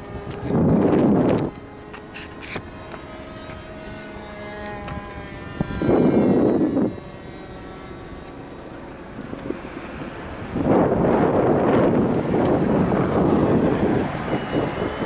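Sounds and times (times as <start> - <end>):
wind gust on microphone: 0.0 - 8.0, 9.1 - 15.0
model airplane motor whining: 0.0 - 15.0.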